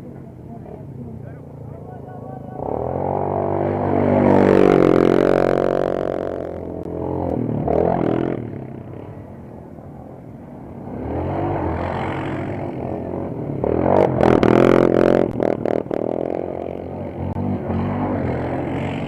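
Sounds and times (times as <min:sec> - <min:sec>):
off-road vehicle engine revving: 0:00.7 - 0:09.2, 0:10.8 - 0:19.0.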